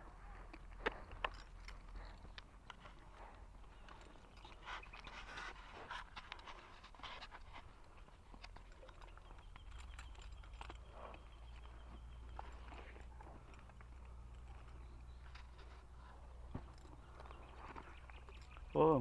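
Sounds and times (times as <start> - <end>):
horses breathing softly: 0.0 - 19.0
horses chewing grass: 0.0 - 19.0.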